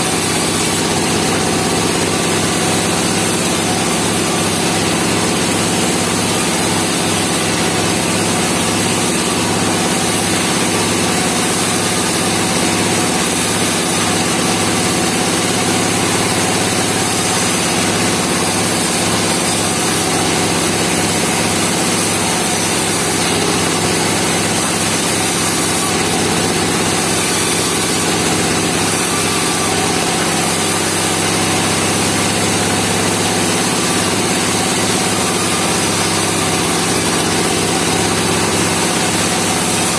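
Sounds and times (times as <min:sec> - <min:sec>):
bandsaw sawmill engine running: 0:00.0 - 0:39.9.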